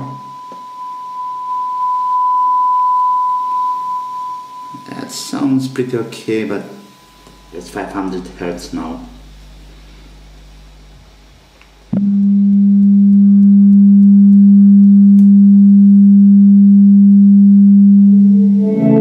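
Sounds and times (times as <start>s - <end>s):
loud steady low test tone: 0.0s - 10.6s, 11.9s - 19.0s.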